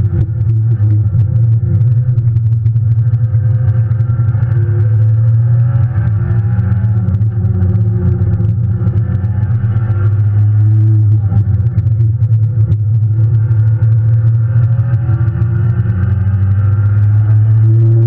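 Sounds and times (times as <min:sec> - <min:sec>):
loud car engine drone: 0:00.0 - 0:18.0
road and tyre noise: 0:00.0 - 0:18.0.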